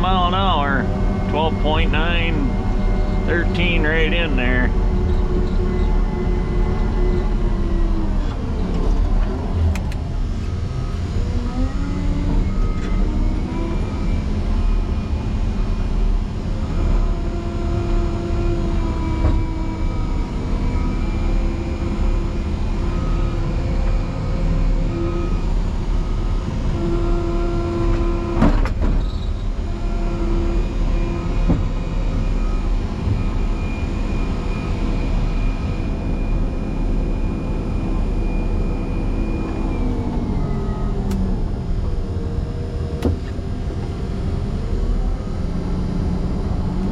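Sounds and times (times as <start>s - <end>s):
grader diesel engine running: 0.0s - 46.9s.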